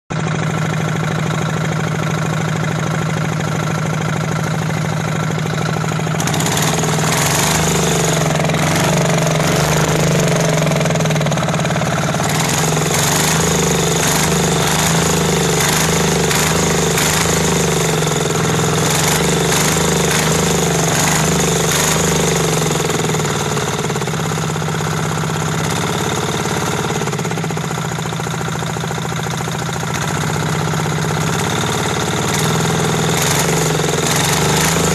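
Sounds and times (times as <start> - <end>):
lawn mower engine running: 0.1 - 34.9.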